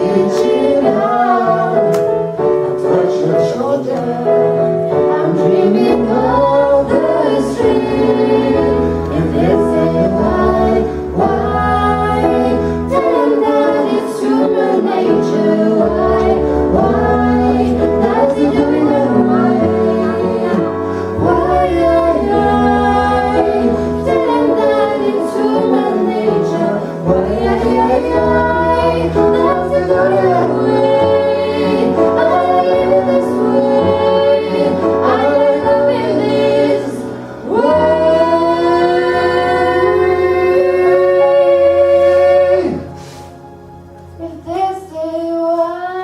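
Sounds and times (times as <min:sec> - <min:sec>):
piano accompaniment: 0:00.0 - 0:46.0
woman singing: 0:02.8 - 0:42.8, 0:44.2 - 0:46.0.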